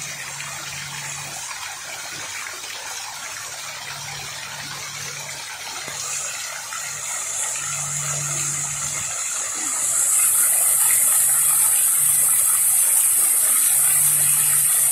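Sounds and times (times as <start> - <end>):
fountain water splashing: 0.0 - 14.9.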